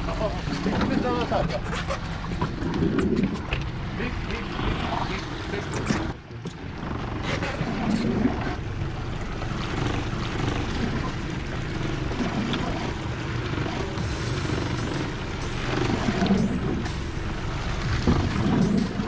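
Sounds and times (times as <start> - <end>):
outboard motors droning: 0.0 - 19.0
water washing around boat: 0.0 - 19.0.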